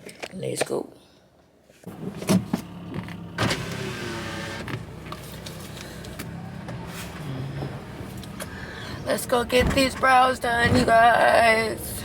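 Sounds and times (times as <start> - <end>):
car engine starting and idling: 1.9 - 12.0.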